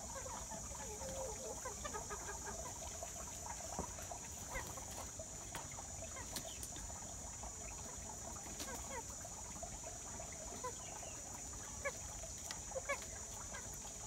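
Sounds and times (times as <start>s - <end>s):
chickens clucking: 0.0s - 14.0s
steady high-pitched hiss: 0.0s - 14.0s.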